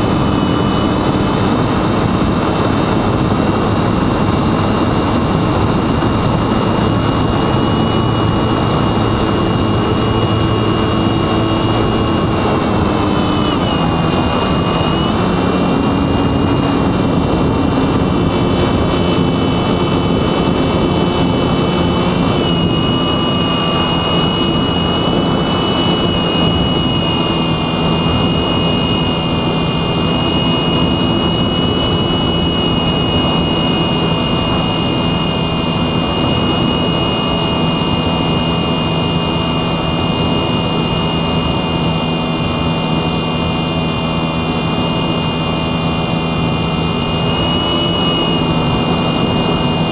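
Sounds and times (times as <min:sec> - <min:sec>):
electric motor high whine: 0:00.0 - 0:49.9.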